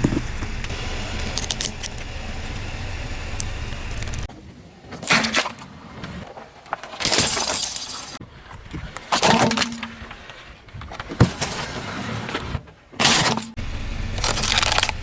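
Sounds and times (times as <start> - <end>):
objects crackling under car tyre: 0.0 - 15.0.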